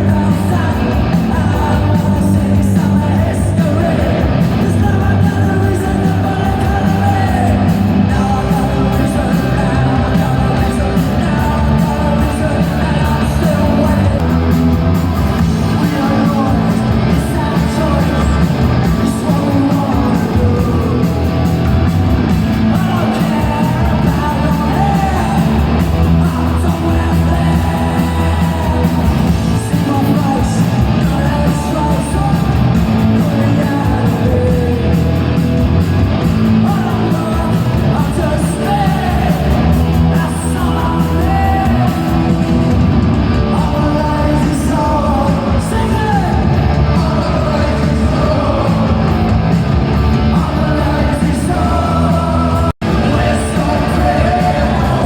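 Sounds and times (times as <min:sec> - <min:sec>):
punk rock band playing: 0:00.0 - 0:55.0
singer shouting and singing: 0:00.0 - 0:55.0.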